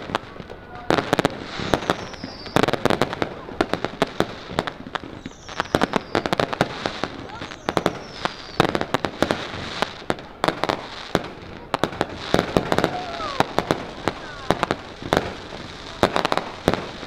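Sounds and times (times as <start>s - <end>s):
firework whistles: 0.0s - 3.1s, 3.7s - 17.0s
fireworks bangs and crackles: 0.0s - 17.0s.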